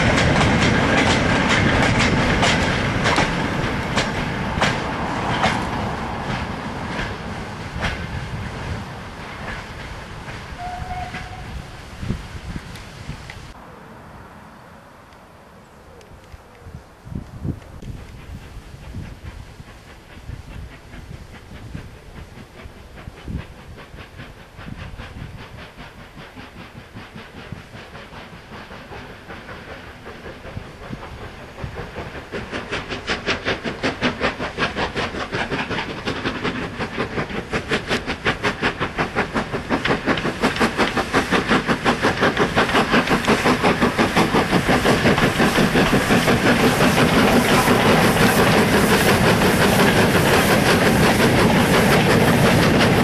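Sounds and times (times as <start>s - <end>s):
steam locomotive chuffing: 0.0s - 13.2s, 17.8s - 53.0s.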